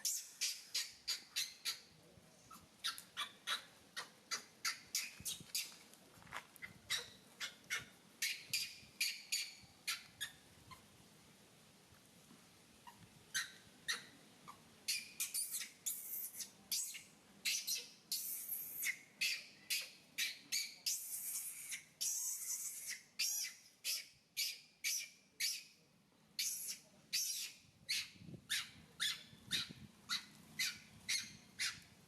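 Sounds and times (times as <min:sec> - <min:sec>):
monkey squeaking: 0:00.0 - 0:01.9, 0:02.5 - 0:05.7, 0:06.6 - 0:10.8, 0:12.8 - 0:25.6, 0:26.4 - 0:31.9.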